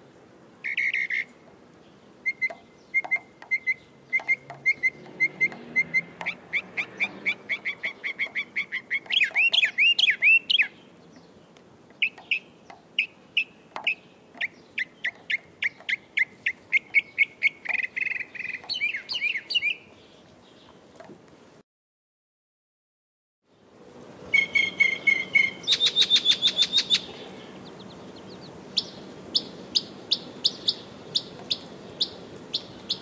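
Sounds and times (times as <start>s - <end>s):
mockingbird singing: 0.6s - 20.8s, 24.3s - 33.0s.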